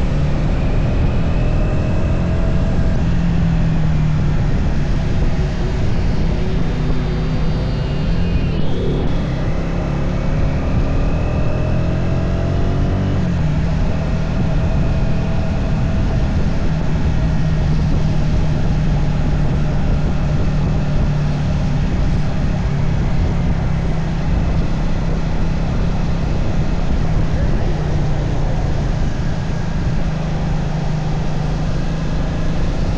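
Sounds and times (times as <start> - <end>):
motorcycle engine accelerating: 0.0 - 32.9
wind rush: 0.0 - 32.9.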